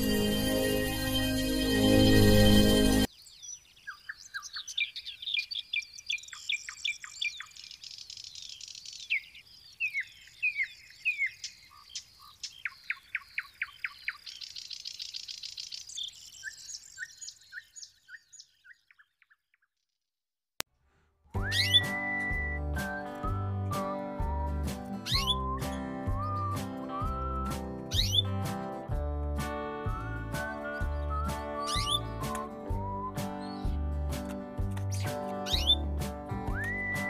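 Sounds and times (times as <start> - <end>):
songbirds chirping and singing: 1.0 - 19.6, 21.4 - 28.6, 30.1 - 37.0.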